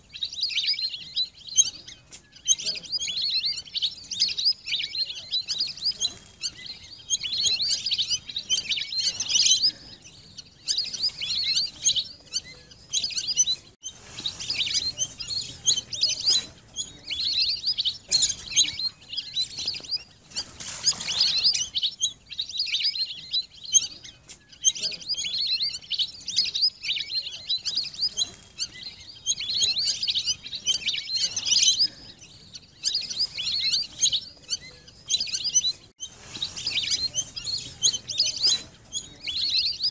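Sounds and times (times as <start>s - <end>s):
ducks whistling: 0.0s - 39.9s.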